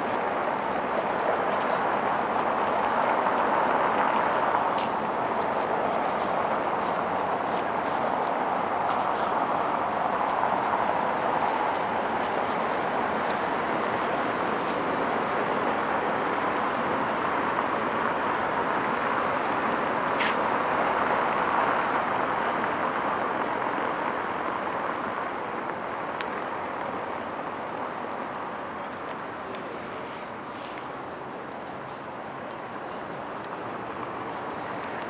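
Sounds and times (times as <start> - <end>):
city traffic: 0.0 - 35.0.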